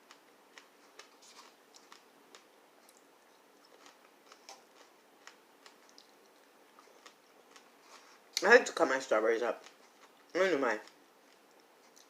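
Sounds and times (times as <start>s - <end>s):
person eating quietly: 0.0s - 12.0s.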